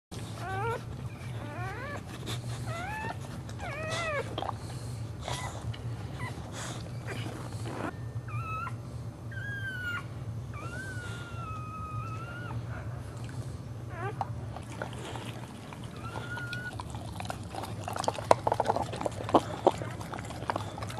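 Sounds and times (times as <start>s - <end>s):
dog whimpering and whining: 0.2s - 13.1s, 13.8s - 20.9s.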